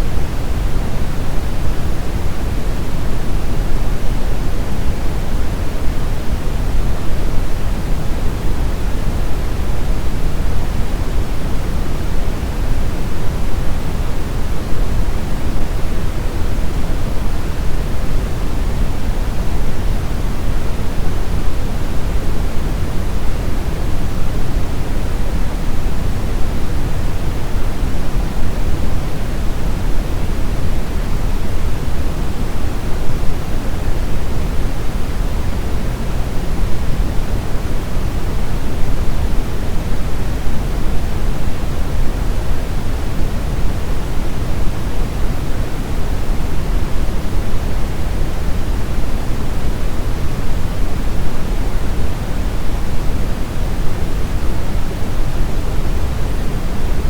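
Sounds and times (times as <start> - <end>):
brown noise rumbling hiss: 0.0 - 57.0.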